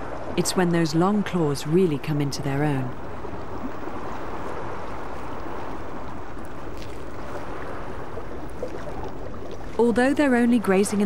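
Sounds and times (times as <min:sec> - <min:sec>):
sea swell washing: 0:00.0 - 0:11.0.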